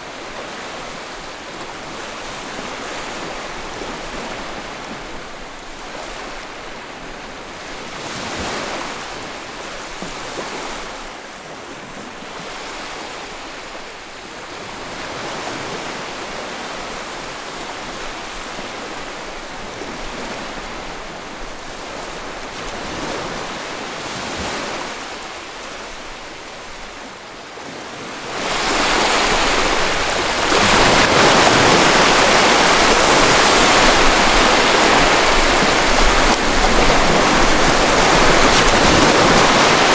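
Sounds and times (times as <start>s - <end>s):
rush of churning water: 0.0s - 39.9s
sea waves washing onto shore: 0.0s - 39.9s.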